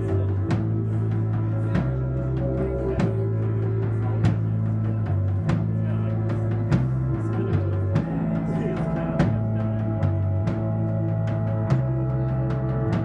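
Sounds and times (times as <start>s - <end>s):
bass line: 0.0s - 13.0s
sustained guitar tones: 0.0s - 13.0s.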